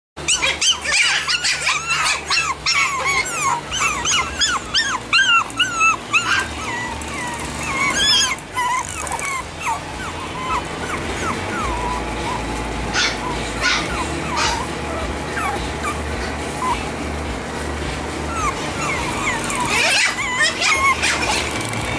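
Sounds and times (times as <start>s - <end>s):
puppies yipping: 0.2s - 21.9s.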